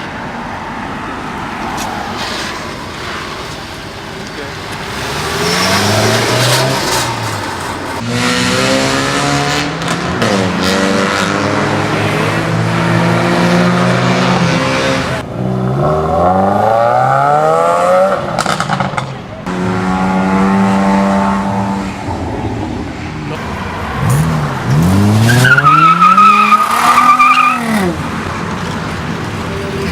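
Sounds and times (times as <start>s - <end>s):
car engines revving and accelerating: 0.0s - 29.9s.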